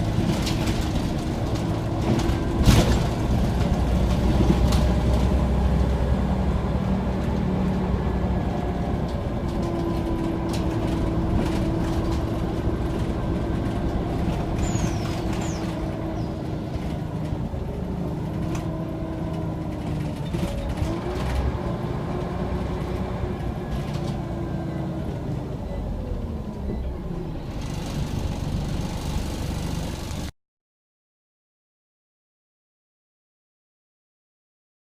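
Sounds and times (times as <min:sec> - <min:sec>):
bus engine rumble: 0:00.0 - 0:30.3.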